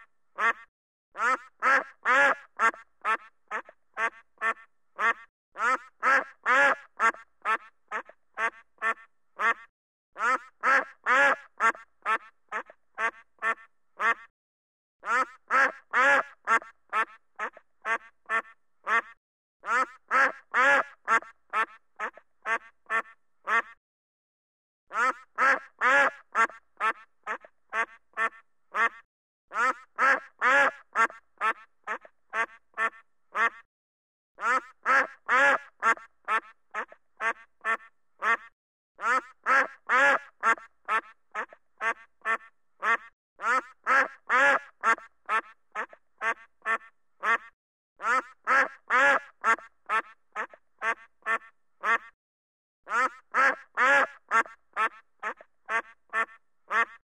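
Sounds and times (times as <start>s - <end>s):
duck quacking: 0.0s - 14.3s, 15.0s - 23.8s, 24.9s - 33.7s, 34.4s - 52.2s, 52.9s - 57.0s.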